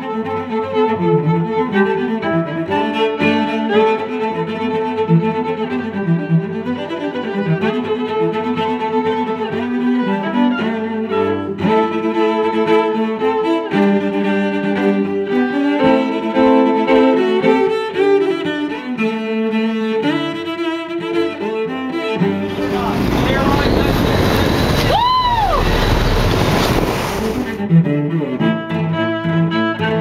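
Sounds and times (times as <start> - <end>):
slow string music: 0.0 - 24.8, 25.8 - 30.0.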